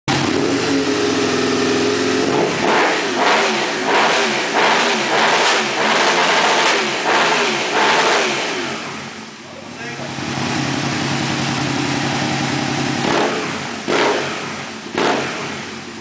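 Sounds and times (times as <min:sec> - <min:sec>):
motorcycle engine revving: 0:00.1 - 0:16.0.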